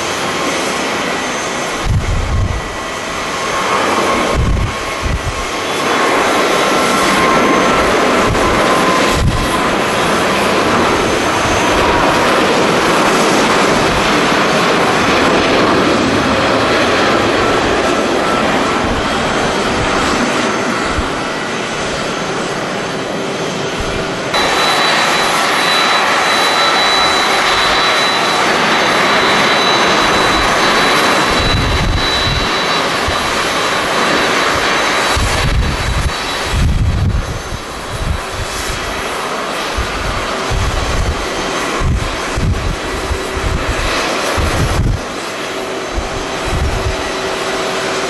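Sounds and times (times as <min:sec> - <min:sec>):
jet engine roar: 0:00.0 - 0:48.0
wind buffeting microphone: 0:01.6 - 0:48.0.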